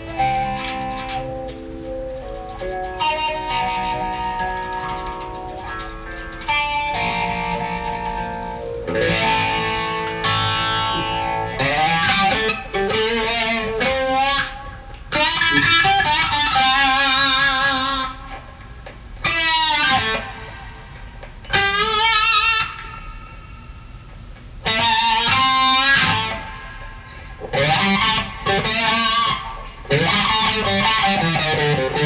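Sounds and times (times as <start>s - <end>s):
overdriven electric guitar lead: 0.0s - 32.0s.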